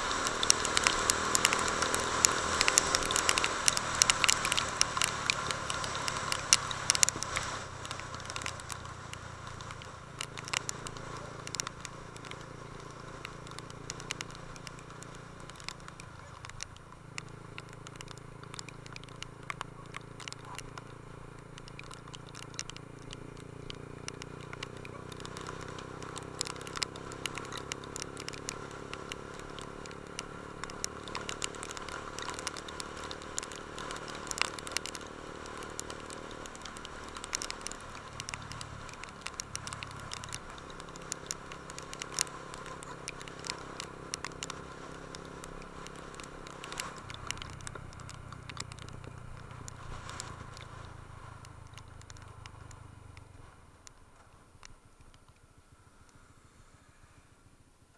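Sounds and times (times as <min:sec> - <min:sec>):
crackles and ticks: 0:00.0 - 0:57.9
motorcycle engine running: 0:00.0 - 0:57.9.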